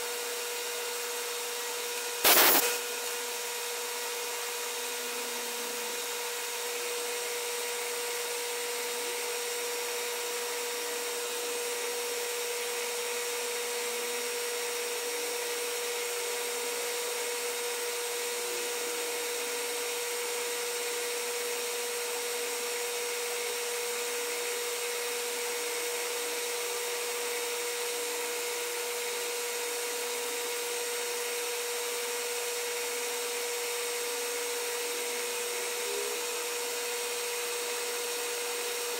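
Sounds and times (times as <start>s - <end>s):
lathe motor whine: 0.0s - 38.9s.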